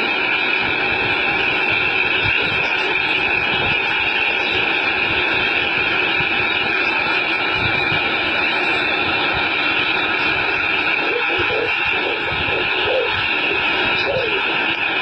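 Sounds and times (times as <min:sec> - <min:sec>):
machinery rumble and hiss: 0:00.0 - 0:15.0.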